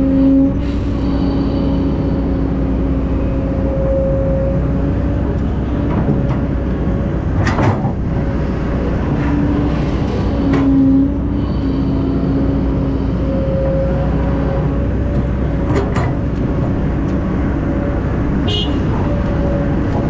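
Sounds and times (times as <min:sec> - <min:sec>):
excavator engine drone: 0:00.0 - 0:20.0.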